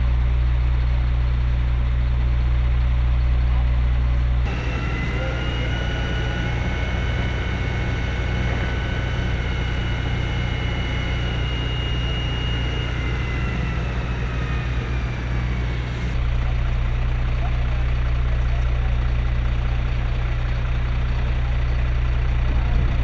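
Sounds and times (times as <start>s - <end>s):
engine noise with high whine: 0.0s - 23.0s.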